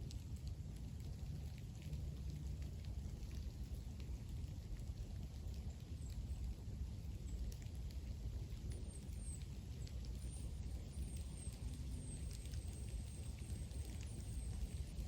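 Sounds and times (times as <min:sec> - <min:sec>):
raindrops ticking on leaves: 0:00.0 - 0:15.0.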